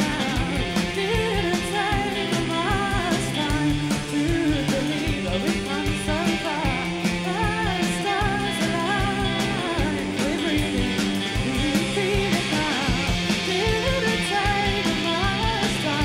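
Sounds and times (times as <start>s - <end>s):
bass guitar: 0.0s - 16.0s
electric guitar: 0.0s - 16.0s
person singing: 0.0s - 16.0s
steady drum beat: 0.0s - 16.0s.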